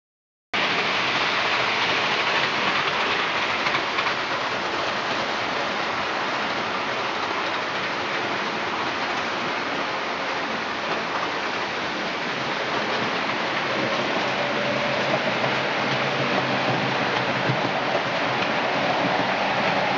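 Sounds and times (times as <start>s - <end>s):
steady rain-like hiss: 0.6s - 19.9s.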